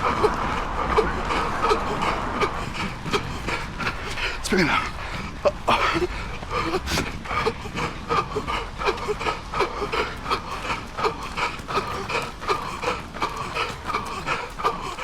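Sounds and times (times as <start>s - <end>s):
runner breathing hard: 0.0s - 15.0s.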